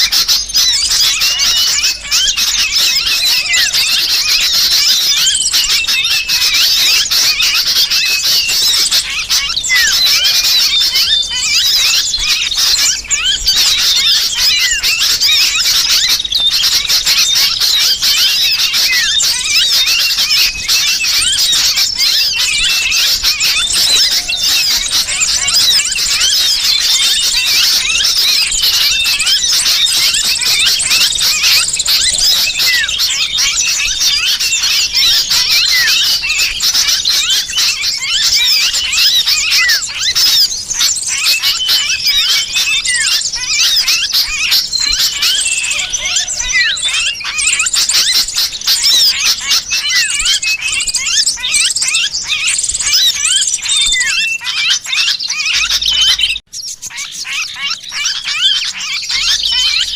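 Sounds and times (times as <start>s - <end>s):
bird distress calls: 0.0s - 59.9s
small birds chattering: 0.0s - 59.9s.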